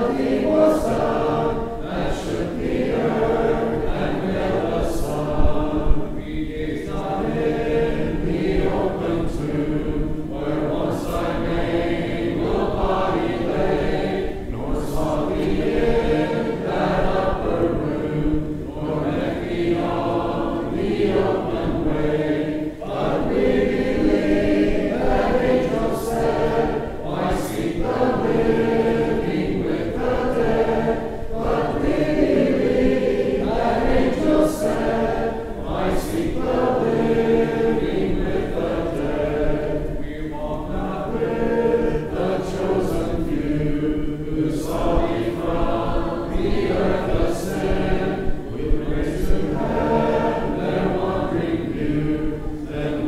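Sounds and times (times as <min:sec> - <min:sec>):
congregation singing a hymn: 0:00.0 - 0:53.0.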